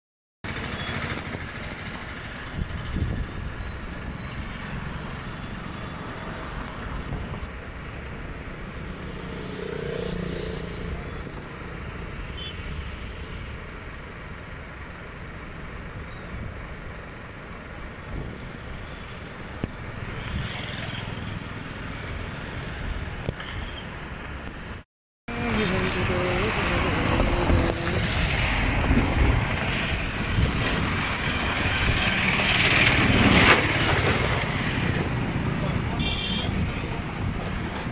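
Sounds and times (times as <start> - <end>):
road traffic rumble: 0.4 - 37.9.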